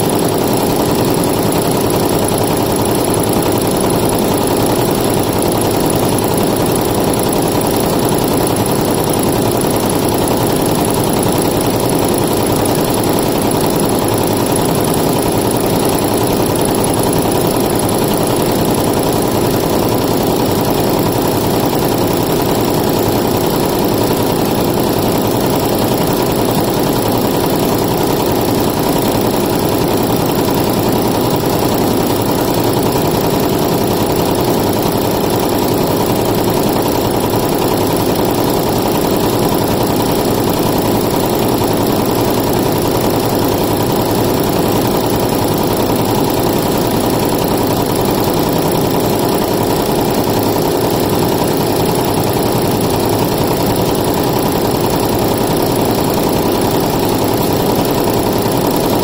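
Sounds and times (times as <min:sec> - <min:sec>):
embroidery machine stitching: 0:00.0 - 0:59.0.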